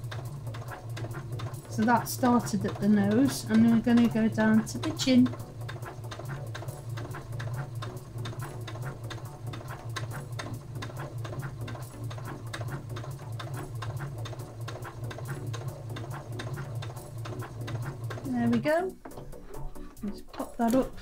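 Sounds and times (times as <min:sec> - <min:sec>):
sewing machine stitching: 0:00.0 - 0:21.0.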